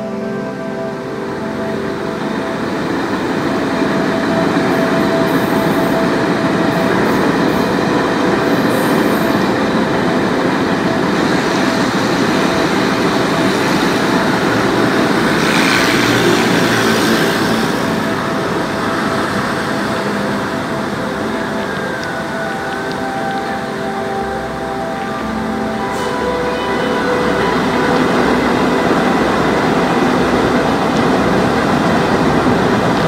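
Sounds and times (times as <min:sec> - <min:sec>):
train wheels rumbling on rail: 0:01.4 - 0:33.0.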